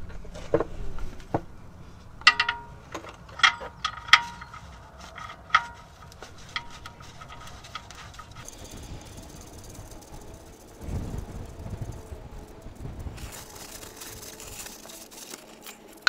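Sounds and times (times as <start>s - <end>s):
metal clicks and clinks: 2.2s - 16.0s.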